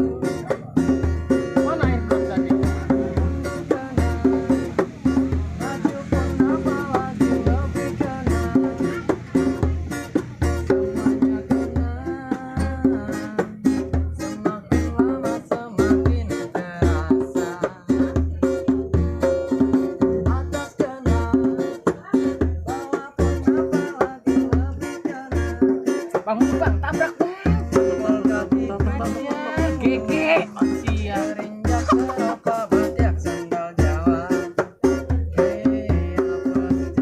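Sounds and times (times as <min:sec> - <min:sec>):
plucked string instrument melody: 0:00.0 - 0:37.0.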